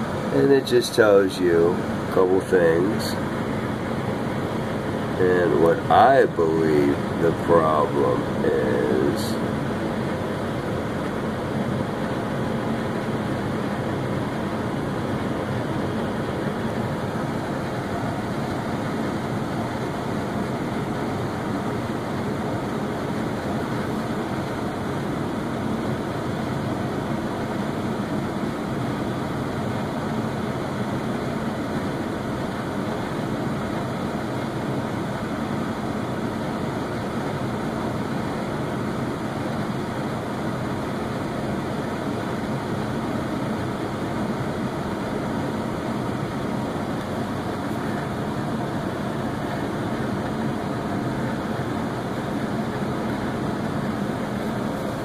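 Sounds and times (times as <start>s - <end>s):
air handler blower whoosh: 0.0s - 55.0s.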